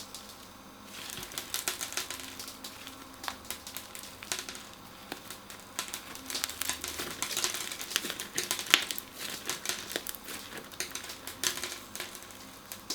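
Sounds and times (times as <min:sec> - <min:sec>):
crunchy slime crackling: 0:00.0 - 0:12.9.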